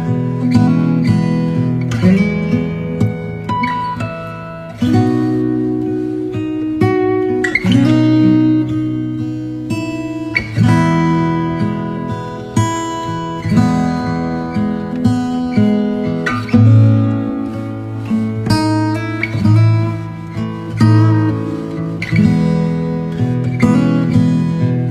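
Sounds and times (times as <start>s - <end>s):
acoustic guitar strumming chords: 0.0s - 24.9s.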